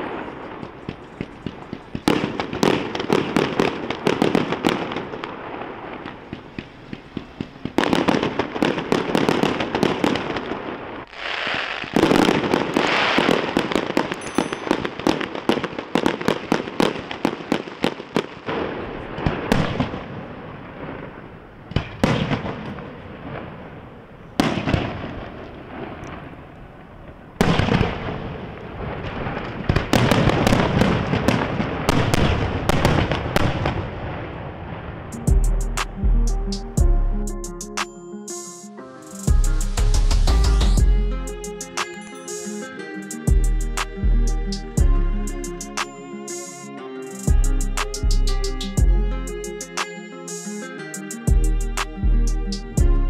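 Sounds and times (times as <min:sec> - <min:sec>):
fireworks banging and crackling: 0:00.0 - 0:36.0, 0:37.8 - 0:44.0, 0:45.3 - 0:51.9.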